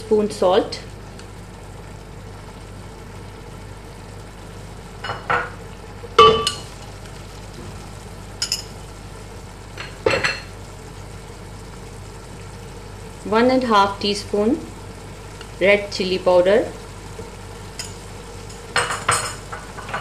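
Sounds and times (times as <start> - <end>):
low sizzle: 0.0 - 20.0.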